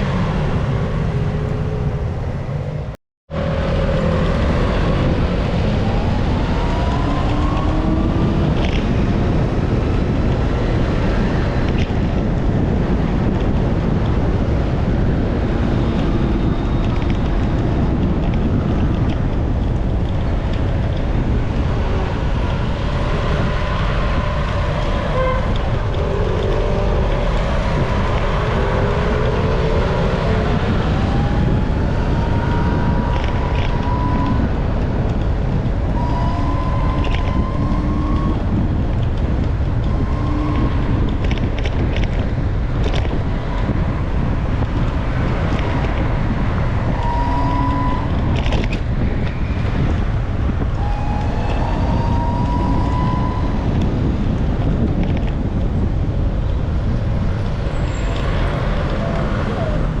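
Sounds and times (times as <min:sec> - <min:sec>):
passing vehicle engines: 0:00.0 - 1:00.0
wind buffeting microphone: 0:00.0 - 1:00.0.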